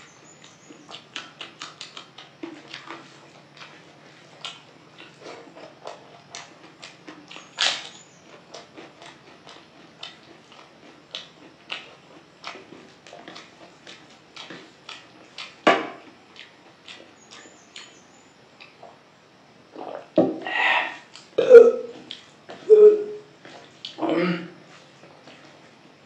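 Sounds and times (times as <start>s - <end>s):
wet chewing and lip smacks: 0.0s - 19.1s, 21.0s - 22.6s, 23.3s - 24.0s.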